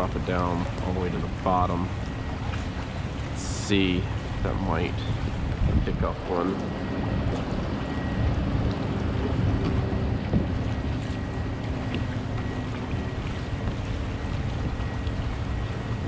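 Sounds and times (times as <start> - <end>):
water lapping around kayak hull: 0.0 - 16.0
wind buffeting microphone: 0.0 - 16.0.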